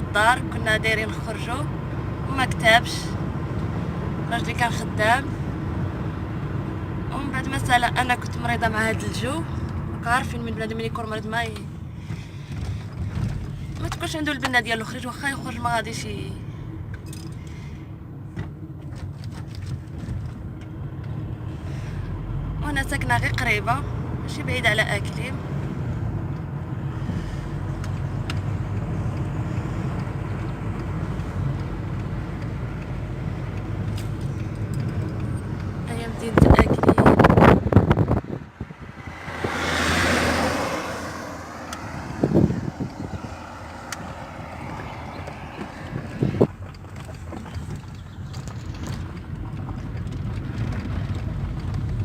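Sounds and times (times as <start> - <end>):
car road and engine noise: 0.0 - 52.0.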